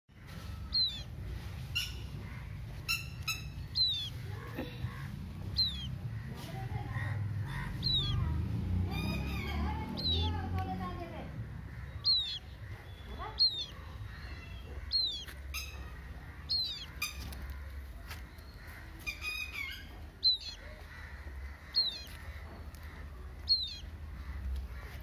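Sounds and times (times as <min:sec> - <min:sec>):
bird chick peeping: 0:00.2 - 0:25.0
low steady rumble: 0:00.2 - 0:25.0.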